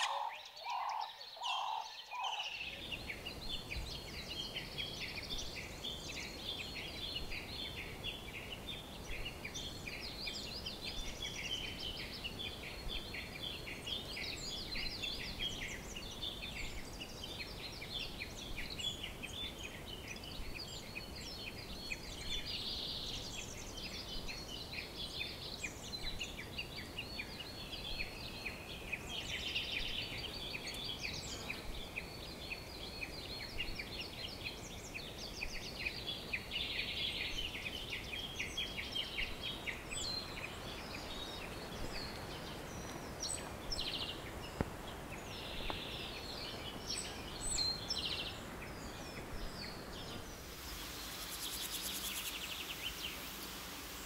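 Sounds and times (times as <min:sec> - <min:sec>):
birds chirping and twittering: 0:00.0 - 0:54.0
steady background hiss: 0:00.0 - 0:54.0.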